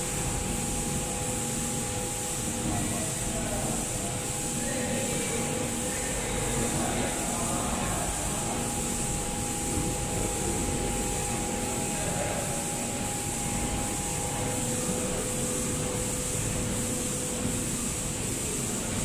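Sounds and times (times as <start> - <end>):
faint machine whine: 0.0 - 19.0
machine humming and hissing: 0.0 - 19.0.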